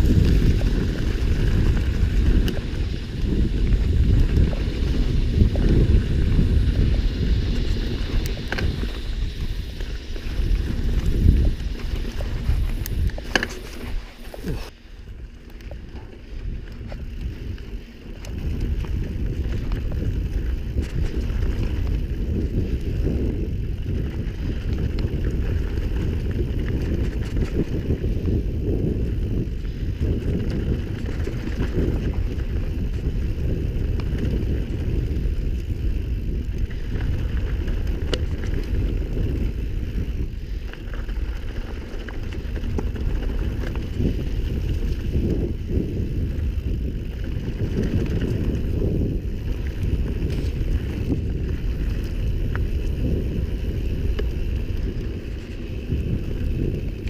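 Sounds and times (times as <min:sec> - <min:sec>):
bike tyres rumbling on dirt trail: 0:00.0 - 0:57.0
faint ticks and rattles: 0:00.0 - 0:57.0
wind on microphone: 0:00.0 - 0:57.0.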